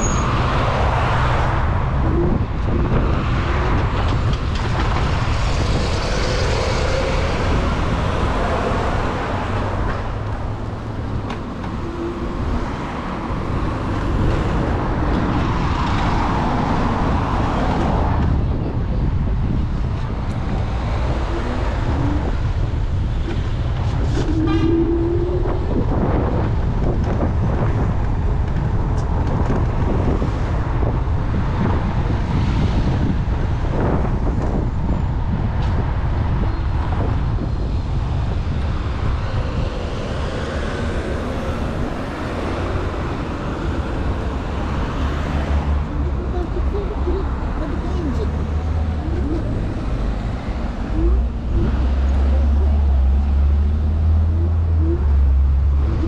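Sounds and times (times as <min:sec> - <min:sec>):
road rumble: 0:00.0 - 0:56.0
wind buffeting microphone: 0:00.0 - 0:56.0.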